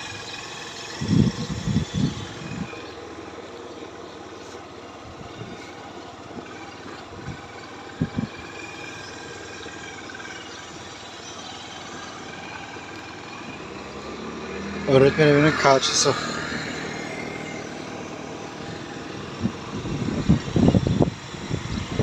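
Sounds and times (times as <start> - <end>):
distant engine hum: 0.0 - 22.0.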